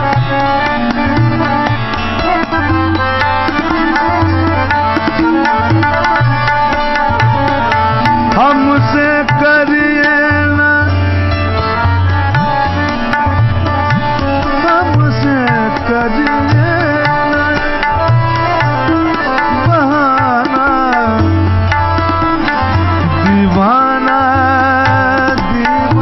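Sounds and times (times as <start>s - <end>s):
harmonium: 0.0s - 26.0s
man singing melodic runs: 0.0s - 26.0s
tabla drumming: 0.0s - 26.0s
tanpura drone: 0.0s - 26.0s.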